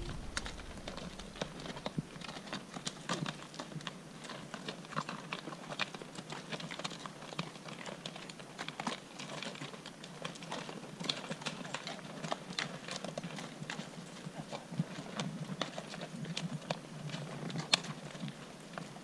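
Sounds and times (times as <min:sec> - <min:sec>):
hooves on rocky gravel: 0:00.0 - 0:19.0.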